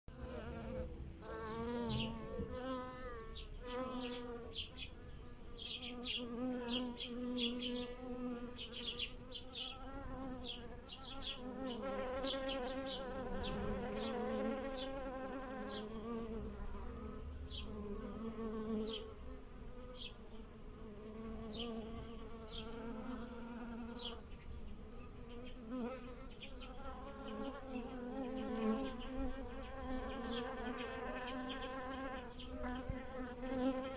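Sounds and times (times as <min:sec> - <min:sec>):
bees buzzing: 0:00.1 - 0:33.9.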